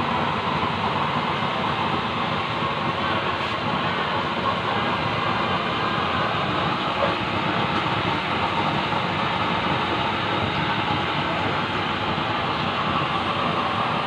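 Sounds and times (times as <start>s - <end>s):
burner flame and blower rushing: 0.0s - 14.0s.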